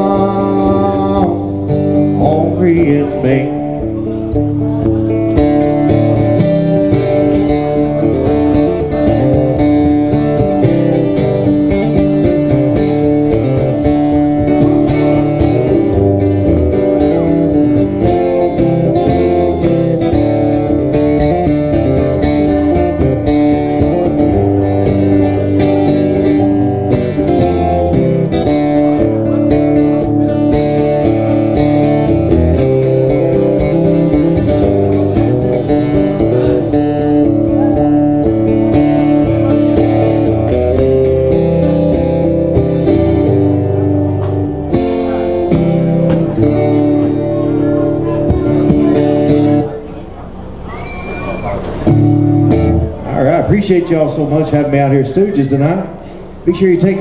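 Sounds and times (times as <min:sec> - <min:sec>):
acoustic-electric guitar strumming: 0:00.0 - 0:57.0.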